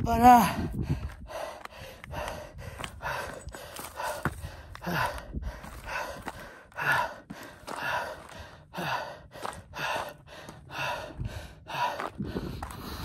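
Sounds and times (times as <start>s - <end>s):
man breathing heavily: 0.3s - 13.0s.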